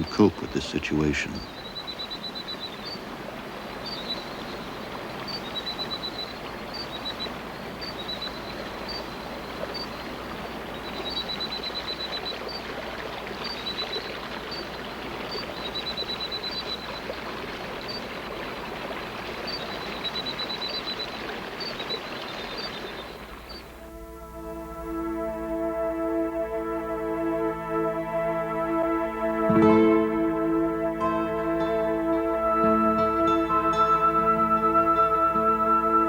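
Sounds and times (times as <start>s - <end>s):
running water rushing: 0.0s - 36.0s.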